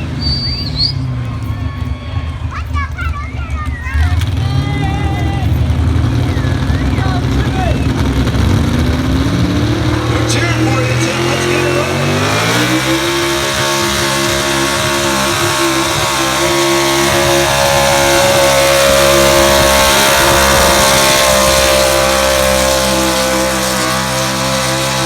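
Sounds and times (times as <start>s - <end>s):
truck engine at full throttle: 0.0s - 25.0s.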